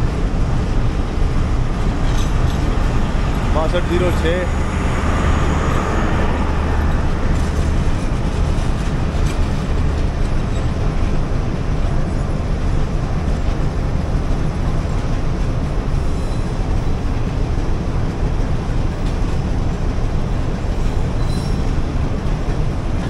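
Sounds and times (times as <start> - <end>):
generator hum: 0.0 - 20.7
train wheels clattering on track: 0.0 - 23.0.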